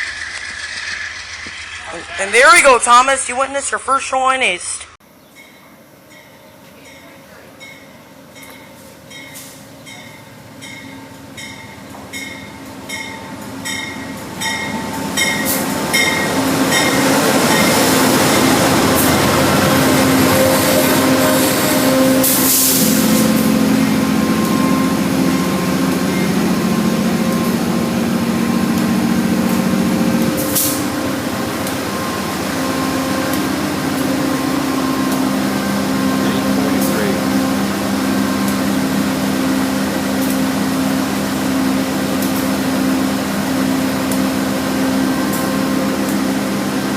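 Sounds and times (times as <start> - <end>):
train rumble with low hum: 0.0 - 2.6, 4.8 - 46.9
train passing: 0.0 - 46.9.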